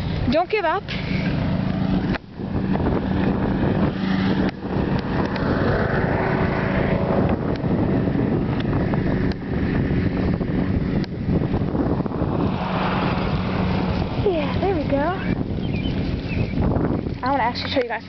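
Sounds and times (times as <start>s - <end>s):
bicycle rattling on pavement: 0.0s - 18.0s
wind on microphone: 0.0s - 18.0s.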